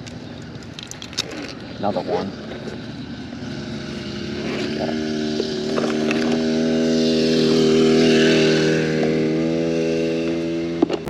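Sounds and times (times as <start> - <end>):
small gas engine passing: 0.0 - 11.0.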